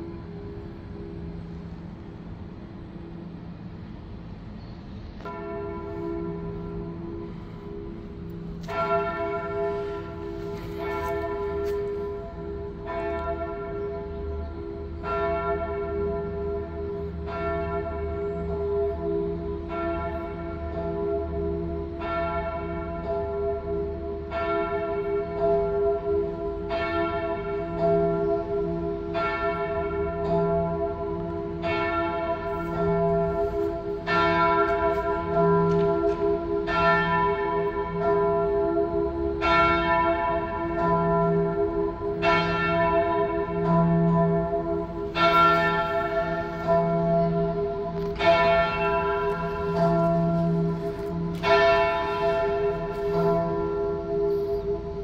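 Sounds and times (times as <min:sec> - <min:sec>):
muffled church bells ringing: 0:00.0 - 0:55.0.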